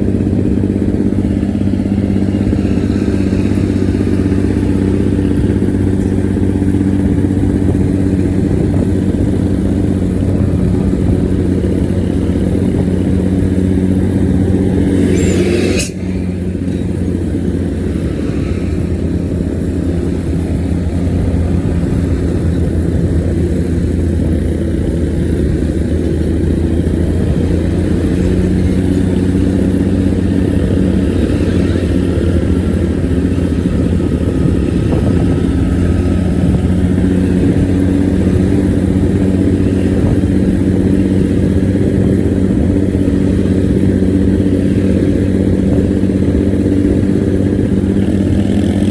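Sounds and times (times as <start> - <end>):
bus engine growling: 0.0 - 48.9.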